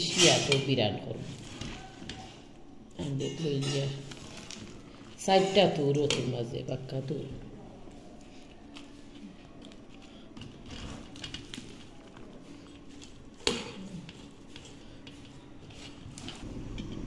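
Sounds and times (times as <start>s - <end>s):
wet strips rustling in steel bowl: 0.0s - 17.0s.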